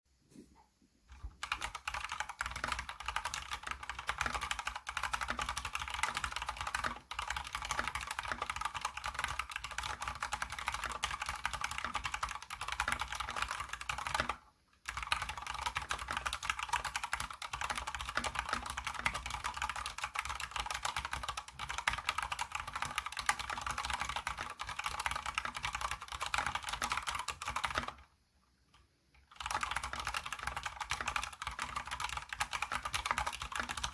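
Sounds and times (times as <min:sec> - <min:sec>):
fast mechanical keyboard typing: 0:01.1 - 0:28.0, 0:29.3 - 0:33.9.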